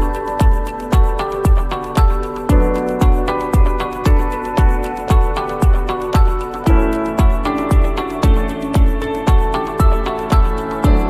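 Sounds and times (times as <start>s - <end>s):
electronic music: 0.0s - 11.0s
kick drum beat: 0.0s - 11.0s.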